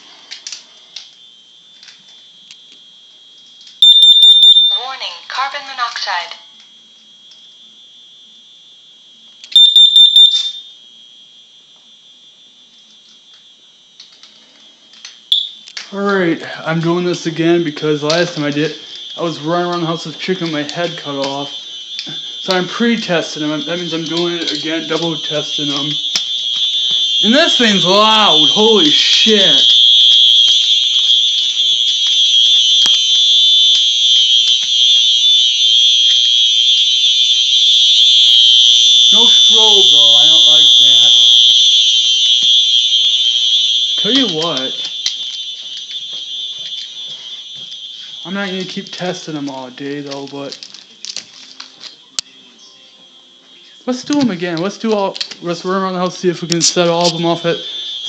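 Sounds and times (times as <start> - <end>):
smoke alarm rapid pulses: 0.0 - 58.0
smoke alarms steady high tone: 0.0 - 58.0.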